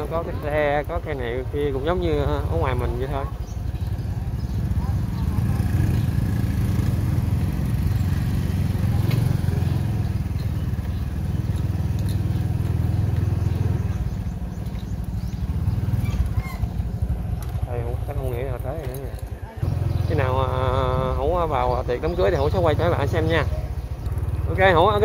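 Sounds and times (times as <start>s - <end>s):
motorbike engine running: 0.0s - 25.0s.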